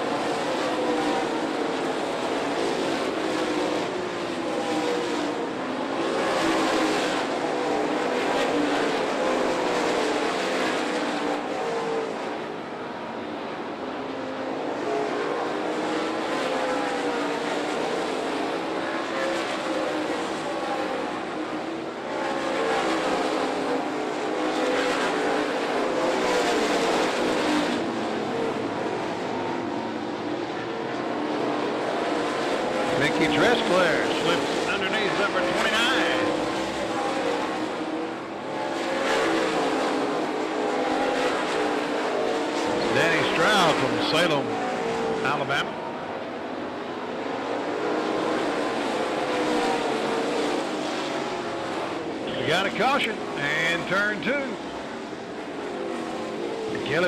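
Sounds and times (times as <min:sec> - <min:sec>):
race car engines at speed: 0:00.0 - 0:57.0.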